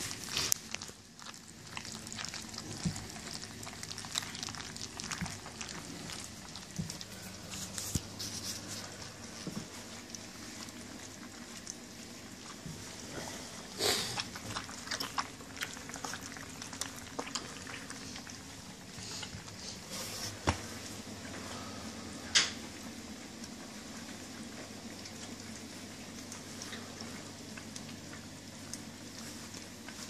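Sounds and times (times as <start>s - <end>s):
puppies crunching dry kibble: 0.0s - 30.0s.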